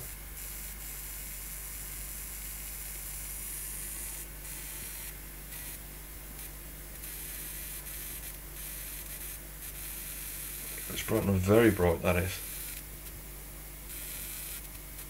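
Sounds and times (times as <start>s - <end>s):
electric spark gap sizzling: 0.0s - 13.2s, 13.9s - 15.0s.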